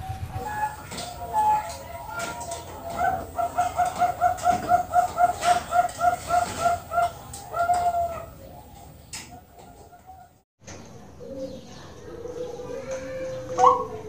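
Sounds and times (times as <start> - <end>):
dove cooing: 0.0 - 10.4, 11.2 - 14.0.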